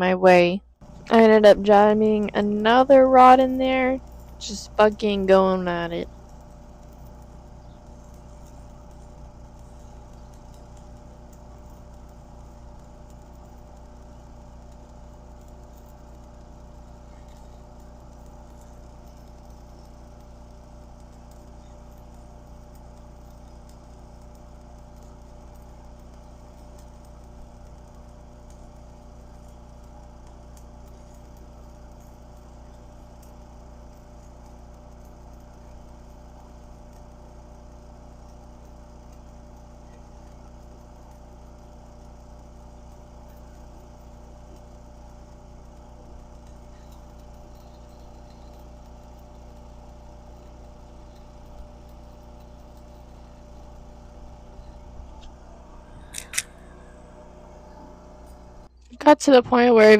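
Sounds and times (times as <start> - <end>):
welding machine humming: 0.0 - 59.9.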